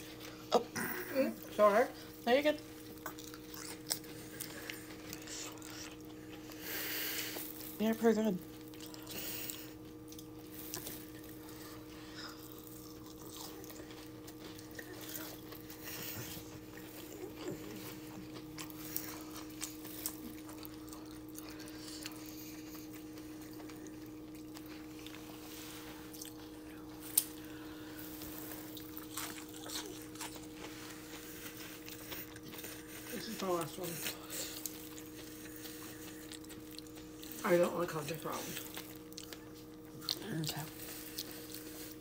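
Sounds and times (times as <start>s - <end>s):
quiet chewing mouth sounds: 0.0s - 42.0s
steady low hum: 0.0s - 42.0s.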